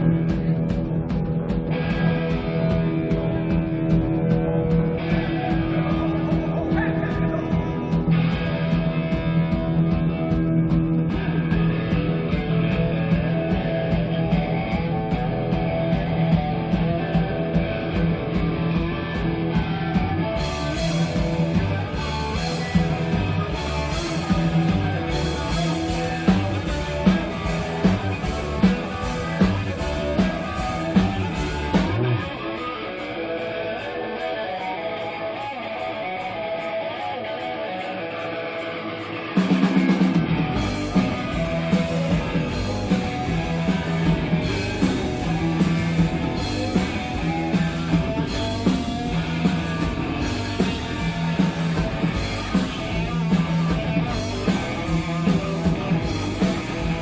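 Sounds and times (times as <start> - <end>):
bass guitar sustained notes: 0.0 - 36.3, 38.0 - 57.0
electric guitar: 0.0 - 57.0.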